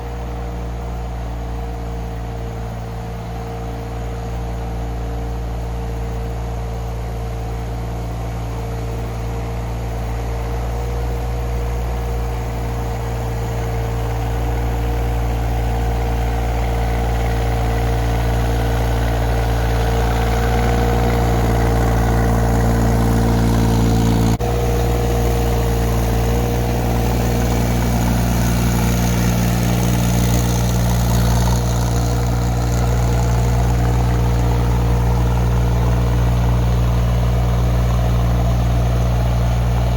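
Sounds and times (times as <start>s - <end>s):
excavator engine running: 7.2s - 39.9s.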